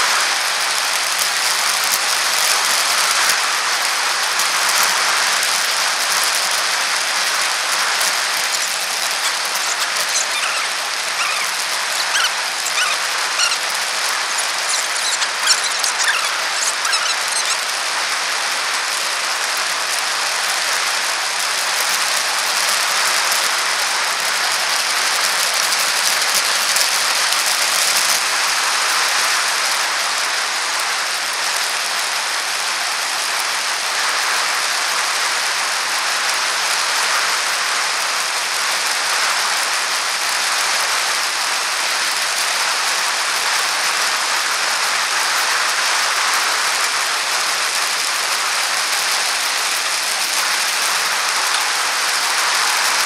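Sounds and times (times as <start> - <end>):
bicycle tyres hissing on pavement: 0.0 - 53.0.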